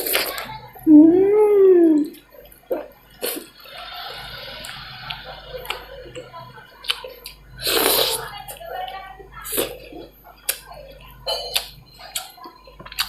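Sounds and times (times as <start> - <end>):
wet eating sounds: 0.0 - 13.0.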